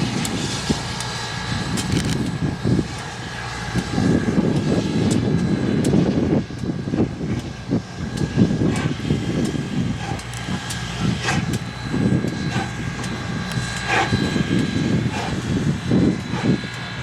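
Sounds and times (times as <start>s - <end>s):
steady high whine: 0.0s - 17.0s
steam locomotive exhaust chuffing: 0.0s - 17.0s.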